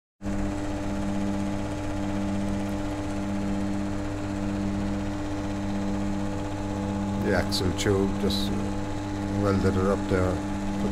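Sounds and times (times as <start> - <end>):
metal lathe humming: 0.3 - 10.9.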